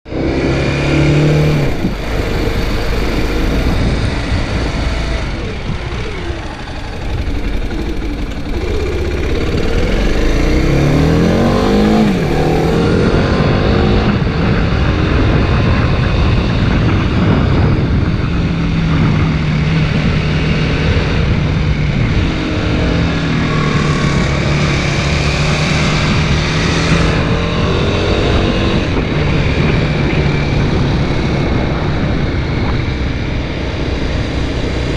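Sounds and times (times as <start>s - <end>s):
motorcycle engine accelerating: 0.0s - 34.9s
wind rush on microphone: 0.1s - 34.9s.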